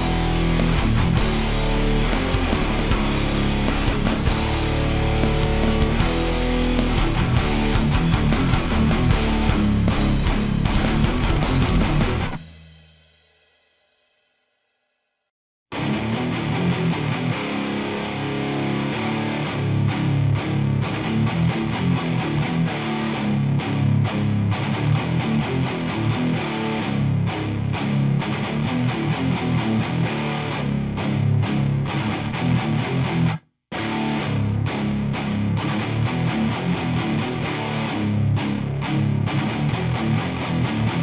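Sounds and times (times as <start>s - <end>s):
distorted electric guitar riffs: 0.0s - 12.8s, 15.7s - 41.0s.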